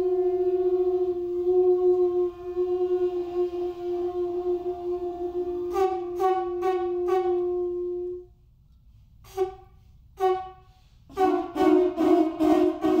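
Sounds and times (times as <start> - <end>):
conch shell trumpet blasts: 0.0 - 8.2, 9.3 - 13.0.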